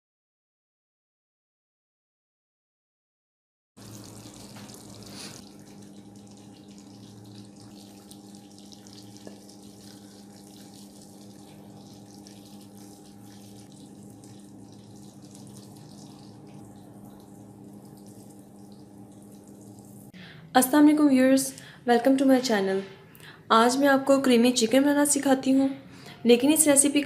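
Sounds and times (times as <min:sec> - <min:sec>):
low electrical hum: 0:03.8 - 0:27.0.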